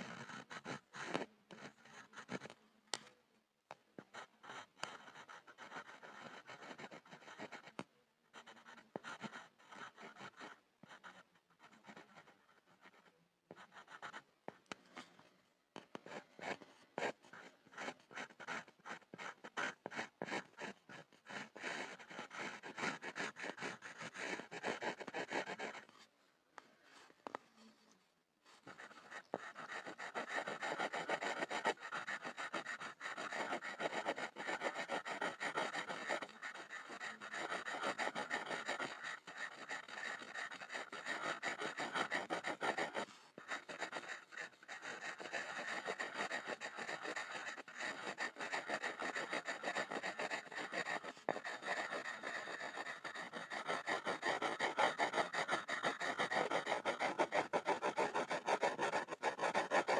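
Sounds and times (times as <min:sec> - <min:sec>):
pencil scribbling on wood: 0:00.0 - 0:02.6, 0:04.0 - 0:14.2, 0:15.8 - 0:26.0, 0:28.5 - 0:59.9.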